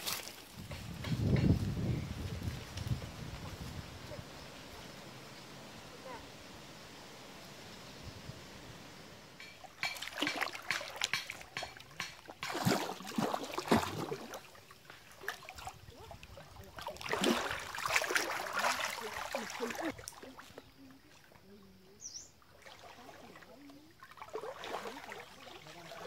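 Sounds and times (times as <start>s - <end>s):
creek water splashing: 0.0s - 26.0s.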